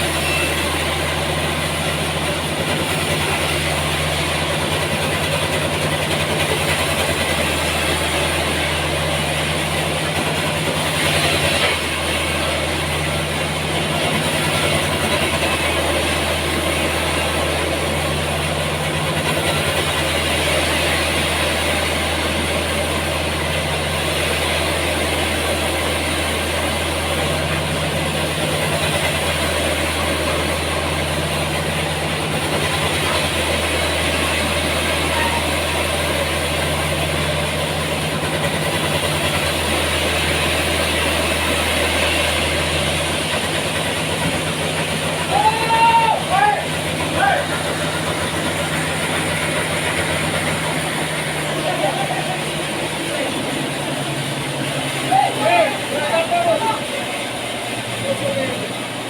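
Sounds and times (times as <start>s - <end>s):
sawmill machinery humming: 0.0s - 59.0s.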